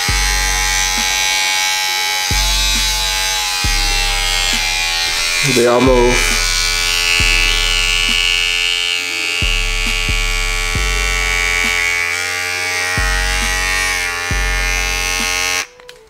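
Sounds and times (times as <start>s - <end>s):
electric clipper buzzing: 0.0s - 15.8s
background music with deep bass: 0.0s - 16.0s.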